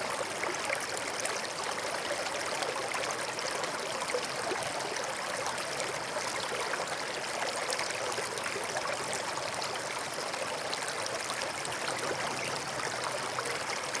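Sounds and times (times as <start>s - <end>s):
stream flowing over rocks: 0.0s - 14.0s.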